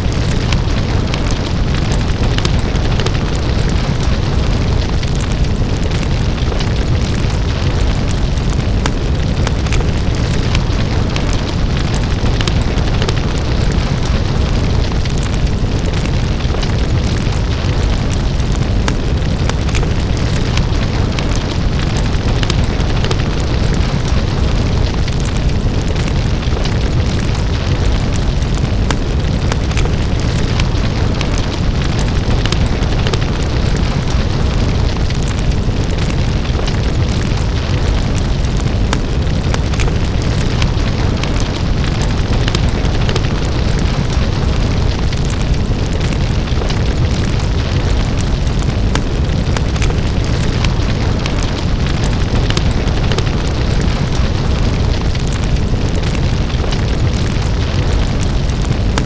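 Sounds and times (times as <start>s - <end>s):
fire roaring and crackling: 0.0s - 59.0s.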